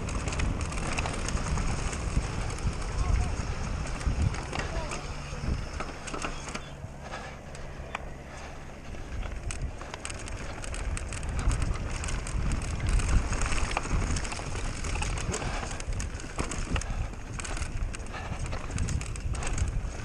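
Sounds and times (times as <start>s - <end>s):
bike tyre noise: 0.0s - 20.0s
rattle of clacks from bike: 0.0s - 20.0s
wind buffeting microphone: 0.0s - 20.0s.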